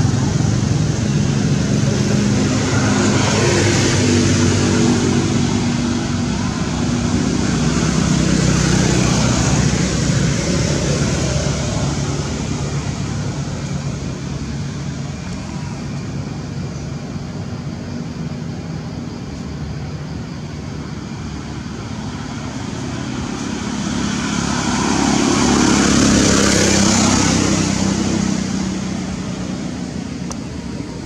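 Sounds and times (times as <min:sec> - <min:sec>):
vehicle passing by: 0:00.0 - 0:15.6, 0:21.1 - 0:31.0
traffic engine hum: 0:00.0 - 0:31.0.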